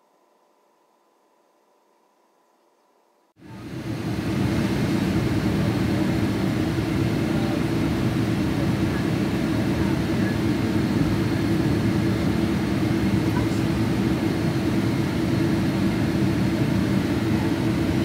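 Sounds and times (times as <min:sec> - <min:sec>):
airliner engine rumble: 0:03.4 - 0:18.0.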